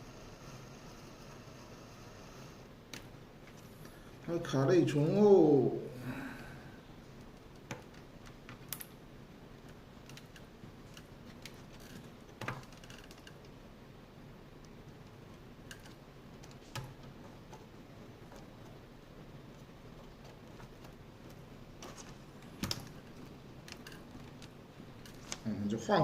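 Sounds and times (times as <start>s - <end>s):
low background hiss: 0.0s - 26.0s.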